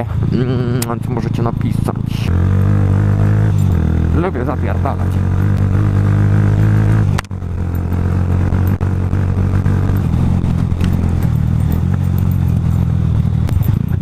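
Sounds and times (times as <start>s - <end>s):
motorcycle engine running hard: 0.0s - 14.0s.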